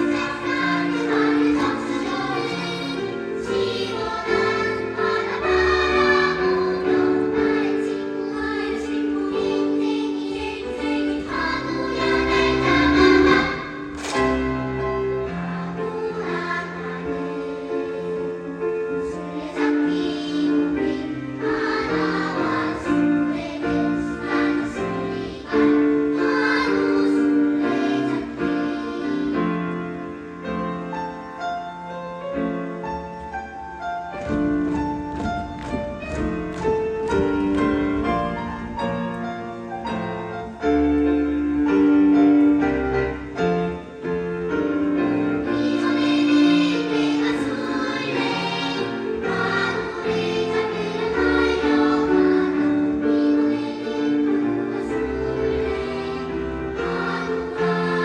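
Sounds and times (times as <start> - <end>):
children's choir singing: 0.0 - 58.0
piano accompaniment: 0.0 - 58.0.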